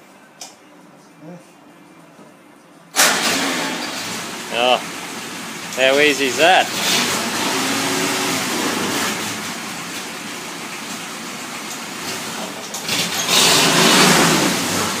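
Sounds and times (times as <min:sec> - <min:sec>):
jeep engine running: 0:03.0 - 0:15.0.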